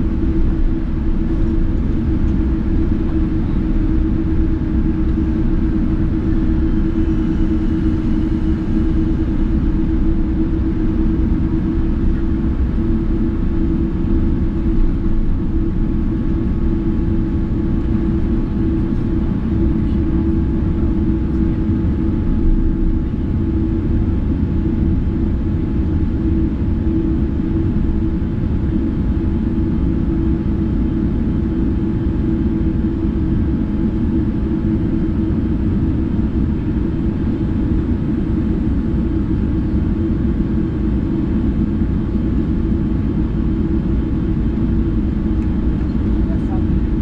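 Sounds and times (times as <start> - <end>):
aircraft cabin low rumble: 0.0 - 47.0
constant hum: 0.0 - 47.0.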